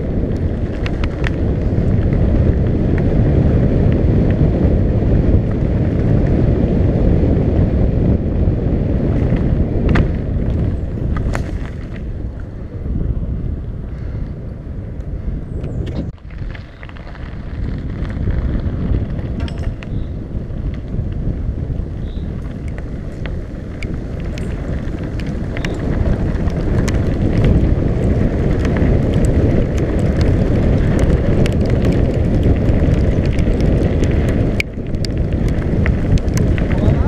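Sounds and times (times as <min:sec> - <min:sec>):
bicycle tyre rumble: 0:00.0 - 0:37.0
bike clicks and rattles: 0:00.0 - 0:37.0
wind buffeting microphone: 0:00.0 - 0:37.0.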